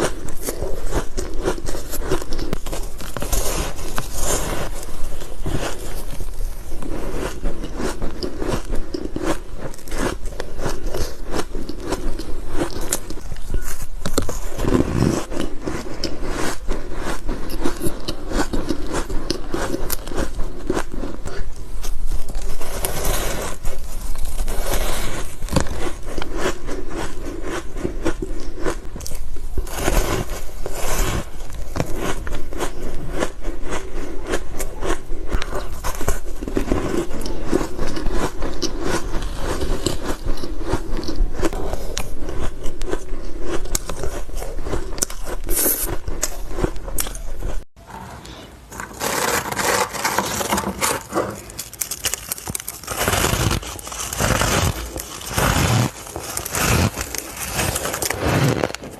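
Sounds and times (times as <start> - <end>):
crunching and chewing ice: 0.0 - 47.8, 48.6 - 58.9.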